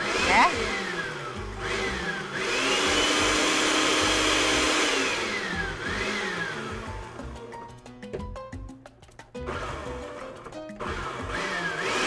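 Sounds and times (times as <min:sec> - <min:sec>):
blender motor whining: 0:00.0 - 0:07.5, 0:09.4 - 0:12.0
music: 0:00.0 - 0:12.0.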